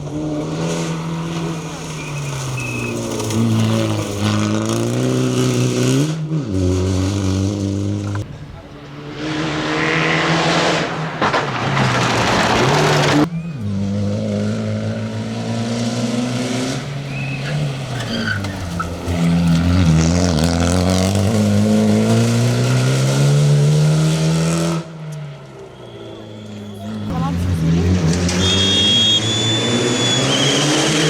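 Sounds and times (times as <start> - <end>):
rally car engine at full throttle: 0.0 - 31.0
tyres skidding: 0.0 - 31.0.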